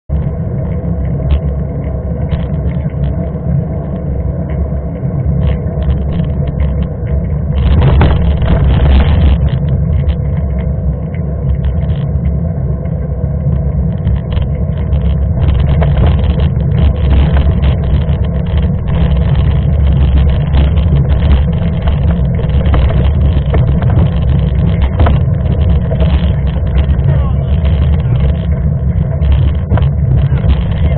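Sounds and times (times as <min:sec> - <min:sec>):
bike tyres rolling on asphalt: 0:00.1 - 0:30.9
crackles: 0:00.1 - 0:30.9
wind on microphone: 0:00.1 - 0:30.9.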